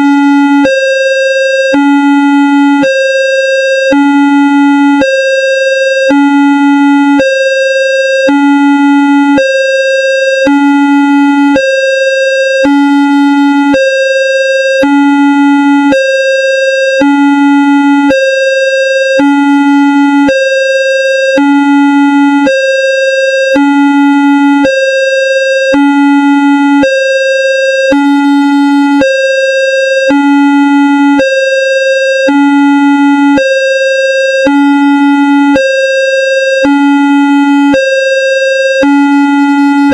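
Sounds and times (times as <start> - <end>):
level crossing alarm tones: 0.0 - 39.9.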